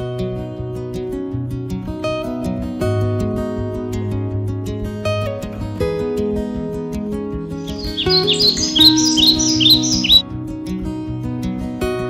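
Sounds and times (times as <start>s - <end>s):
plucked acoustic guitar melody: 0.0s - 12.0s.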